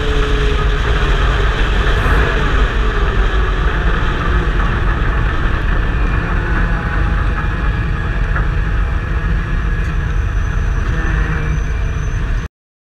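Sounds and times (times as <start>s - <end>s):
race car engine rumbling: 0.0s - 11.3s.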